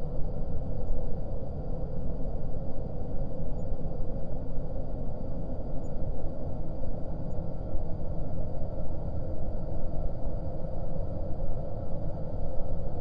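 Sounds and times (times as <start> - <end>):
faint held hum: 0.0 - 13.0.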